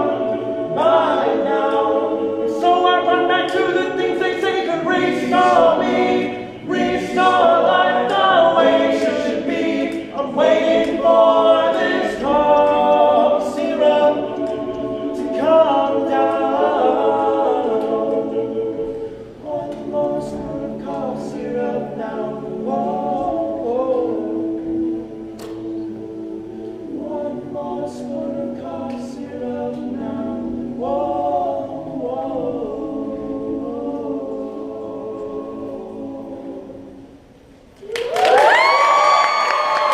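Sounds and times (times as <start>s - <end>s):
a cappella group singing: 0.0s - 37.6s.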